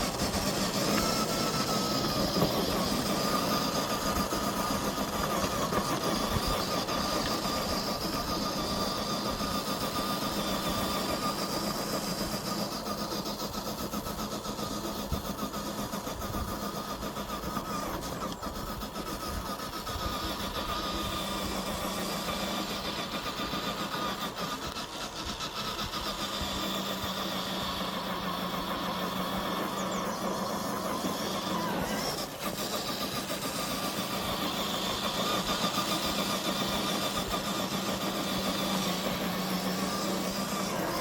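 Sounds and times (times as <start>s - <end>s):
toy car electric motor whining: 0.0s - 41.0s.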